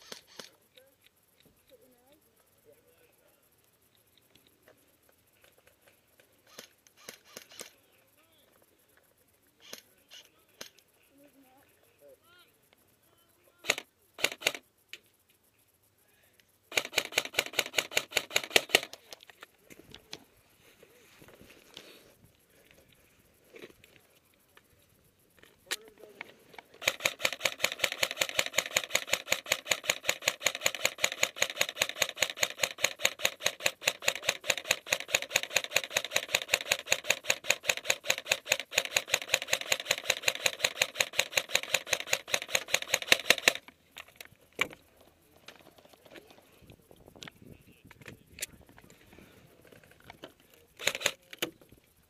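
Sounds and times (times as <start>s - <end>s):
rapid mechanical clicking: 3.5s - 11.0s, 12.7s - 15.8s, 16.4s - 20.2s, 22.3s - 52.0s.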